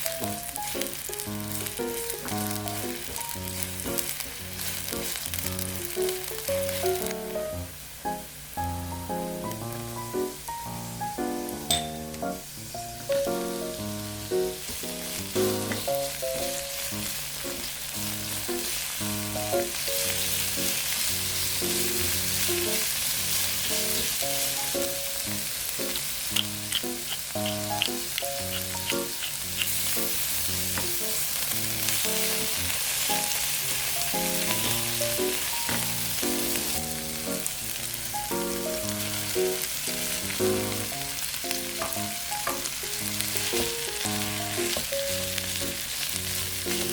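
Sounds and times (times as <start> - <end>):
food sizzling in oil: 0.0 - 46.9
light background music: 0.0 - 46.9.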